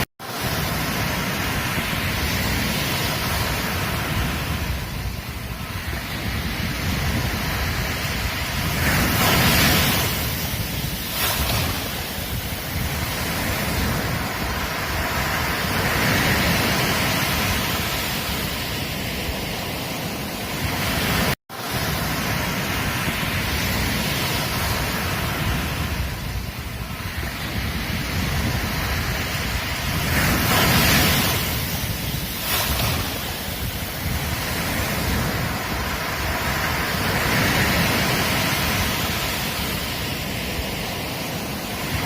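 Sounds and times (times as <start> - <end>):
ocean surf on a beach: 0.0 - 42.0.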